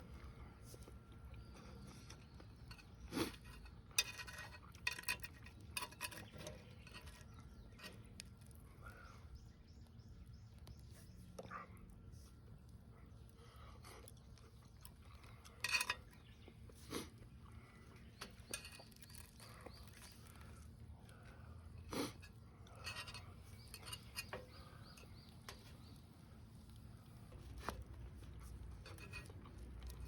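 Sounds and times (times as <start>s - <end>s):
faint outdoor background: 0.0s - 30.0s.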